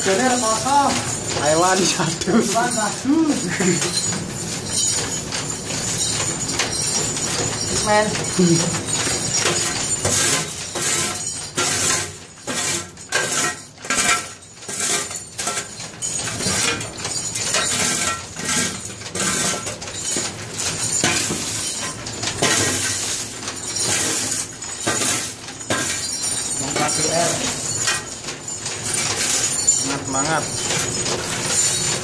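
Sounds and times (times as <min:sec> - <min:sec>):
metal scrap clattering: 0:00.0 - 0:32.0.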